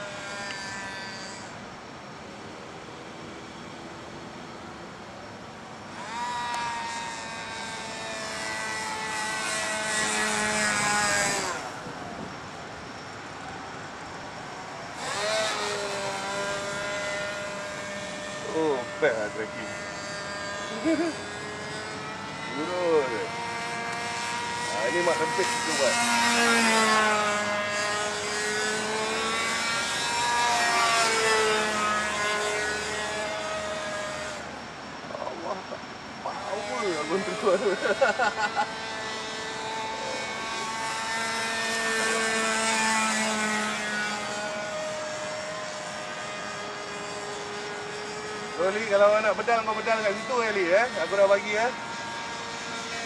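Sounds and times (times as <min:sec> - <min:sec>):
distant model airplane hum: 0:00.0 - 0:53.0
model airplane motor whine: 0:00.0 - 0:53.0.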